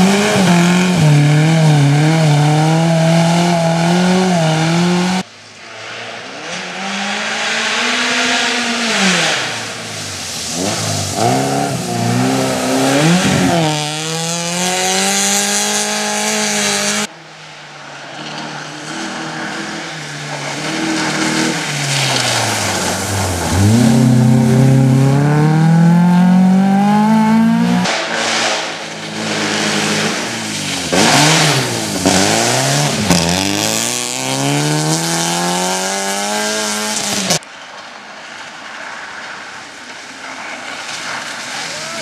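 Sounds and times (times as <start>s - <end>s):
rally car engine revving: 0.0s - 17.1s, 18.0s - 37.4s.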